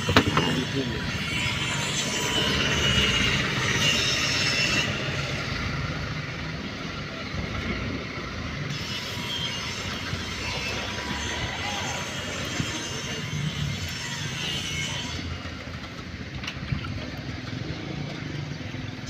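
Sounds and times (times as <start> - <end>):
vehicle traffic din: 0.0 - 19.0.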